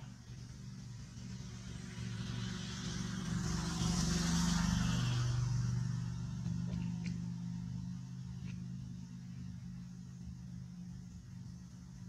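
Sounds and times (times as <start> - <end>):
road vehicle passing: 0.0 - 12.0
steady low hum: 0.0 - 12.0.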